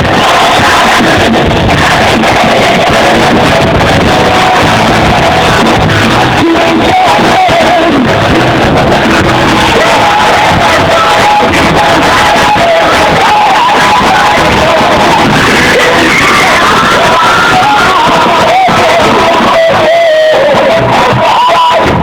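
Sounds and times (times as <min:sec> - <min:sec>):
loud music with singing: 0:00.0 - 0:22.0.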